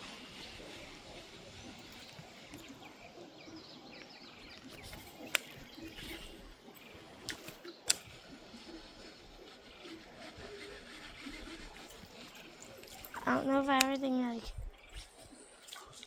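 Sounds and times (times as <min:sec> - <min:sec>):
distant birdsong: 0:00.0 - 0:16.0
sharp clicks: 0:00.6 - 0:03.1, 0:03.8 - 0:16.0.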